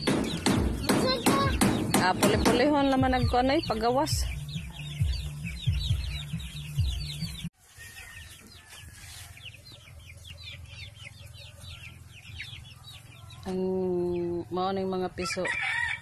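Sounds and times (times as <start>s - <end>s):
chicks peeping: 0.0s - 15.9s.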